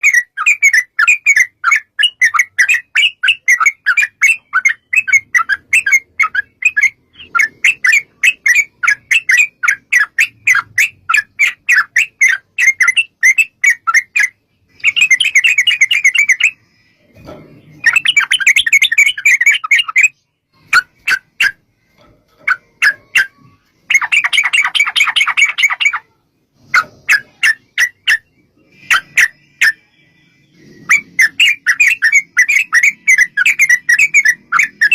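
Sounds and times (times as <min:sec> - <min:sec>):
bulbul chattering song: 0:00.0 - 0:34.9.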